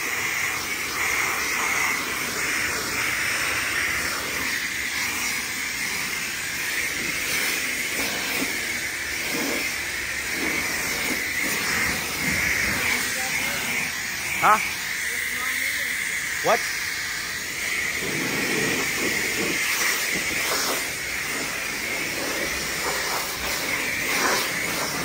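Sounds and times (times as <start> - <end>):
high-pressure water spray hissing: 0.0 - 25.0.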